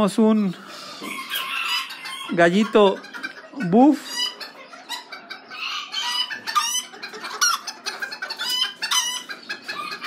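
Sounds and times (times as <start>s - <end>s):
chickens clucking: 0.0s - 10.0s
short high-pitched chicken calls: 0.7s - 10.0s.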